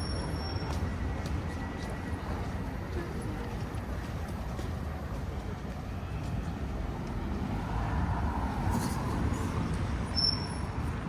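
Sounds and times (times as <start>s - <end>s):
street hubbub: 0.0s - 11.0s.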